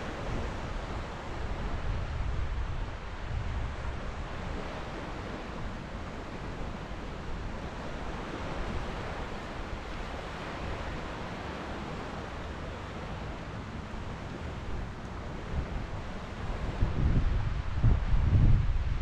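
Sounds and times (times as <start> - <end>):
ocean surf washing onto beach: 0.0 - 19.0
wind rumbling on microphone: 0.0 - 19.0.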